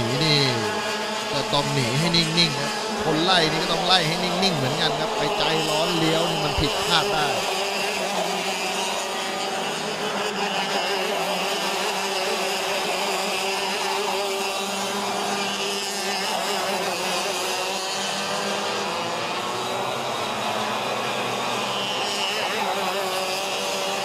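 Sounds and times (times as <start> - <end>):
go-kart engines revving: 0.0 - 24.0.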